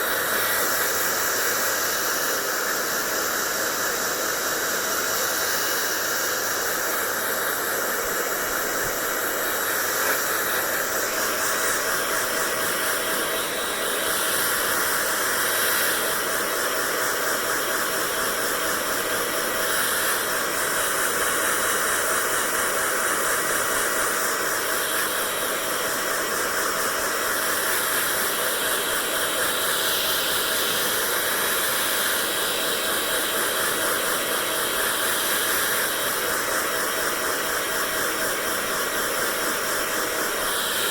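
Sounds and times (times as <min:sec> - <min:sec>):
hair dryer blowing air: 0:00.0 - 0:40.9.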